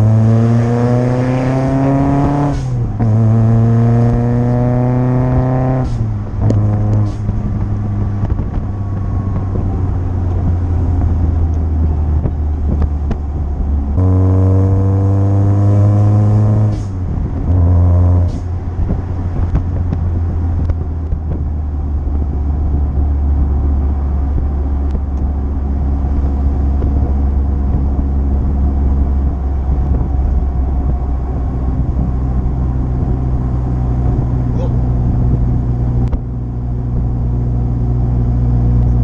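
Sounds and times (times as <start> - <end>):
car engine droning: 0.0 - 39.0
wind and road noise: 0.0 - 39.0.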